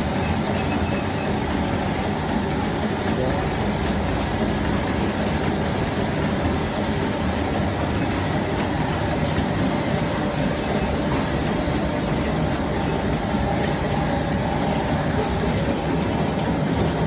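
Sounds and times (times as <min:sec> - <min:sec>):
machine clatter and rumble: 0:00.0 - 0:17.0.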